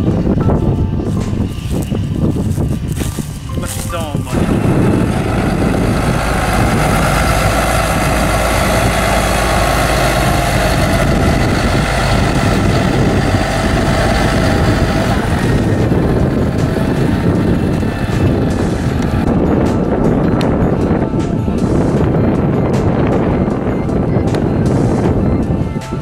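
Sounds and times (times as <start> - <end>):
combine harvester drone: 0.0 - 26.0.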